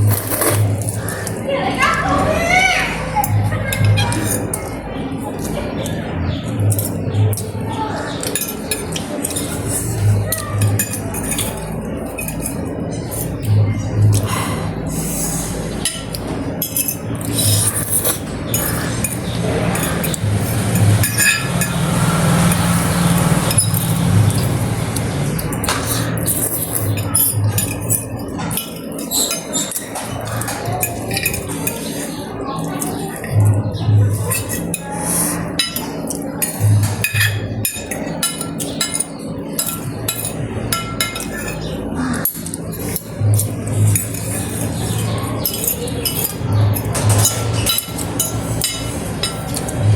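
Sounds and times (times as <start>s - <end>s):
steady low hum: 0.0s - 49.9s
utensils clinking against bowls: 0.0s - 49.9s.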